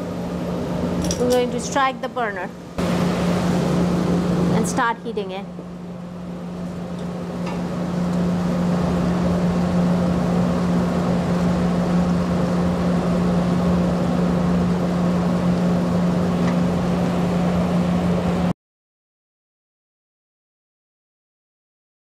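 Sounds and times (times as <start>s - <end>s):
constant low hum: 0.0s - 18.5s
gas burner flame rushing: 0.0s - 18.5s.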